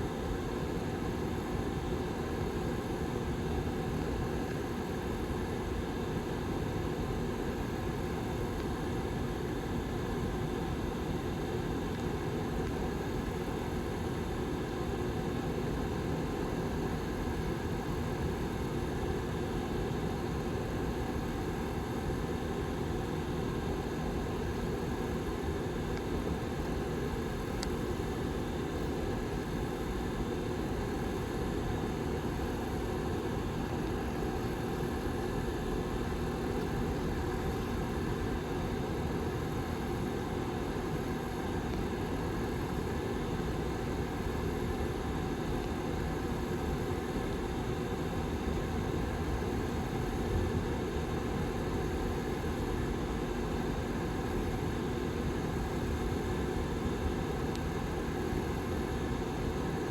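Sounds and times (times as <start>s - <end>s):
heater fan whirring: 0.0s - 59.9s.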